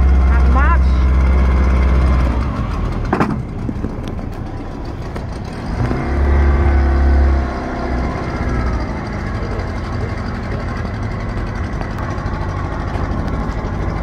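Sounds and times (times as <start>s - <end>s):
boat motor running: 0.0s - 14.0s
low rumble: 2.2s - 14.0s.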